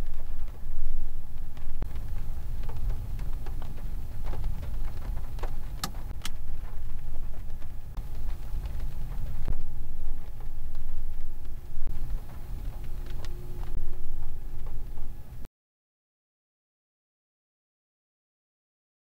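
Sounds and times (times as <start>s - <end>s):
deep low rumble: 0.0s - 15.5s
raindrops ticking: 0.0s - 15.5s
steady rain hiss: 0.0s - 15.5s.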